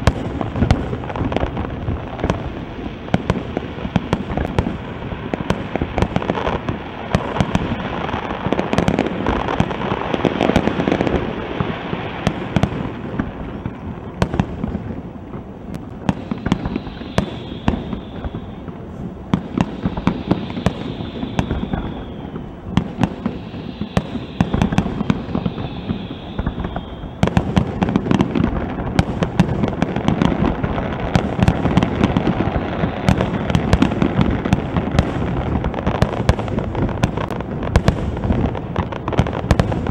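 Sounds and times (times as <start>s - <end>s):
fireworks bangs and crackling: 0.0s - 39.9s
fireworks whistling: 0.0s - 39.9s.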